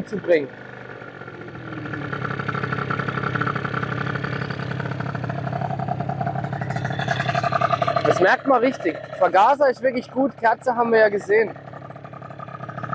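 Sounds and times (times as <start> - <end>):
scooter engine revving: 0.0 - 12.9.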